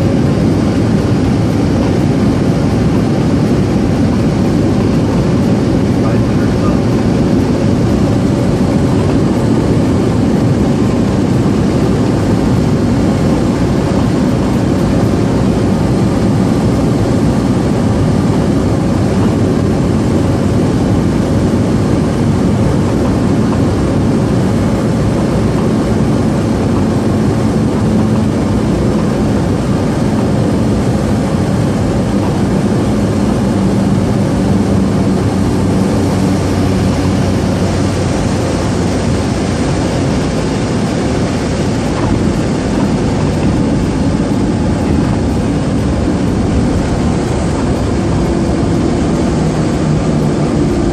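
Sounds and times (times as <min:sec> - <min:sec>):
low hum: 0:00.0 - 0:50.9
propeller airplane engine droning: 0:00.0 - 0:50.9.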